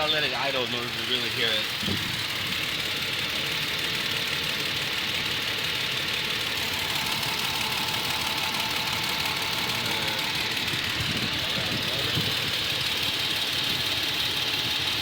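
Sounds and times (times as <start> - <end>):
engine idling with ticking: 0.0 - 15.0.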